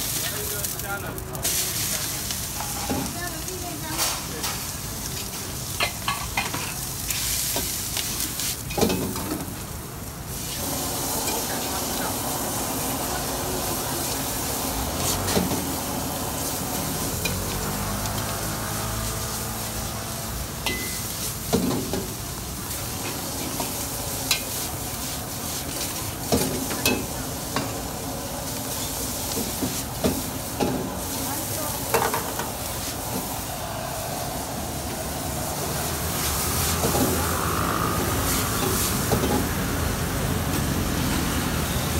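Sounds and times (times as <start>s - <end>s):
food sizzling in a wok: 0.0s - 41.9s.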